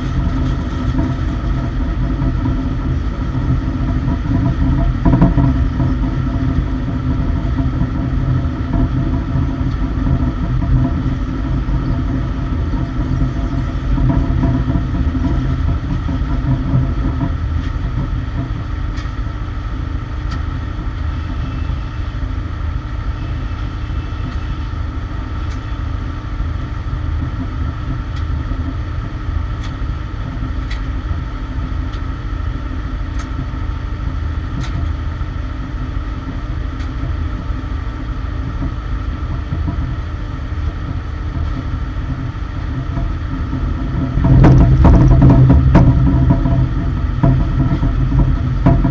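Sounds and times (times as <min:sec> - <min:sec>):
cargo loader engine rumbling: 0:00.0 - 0:48.9.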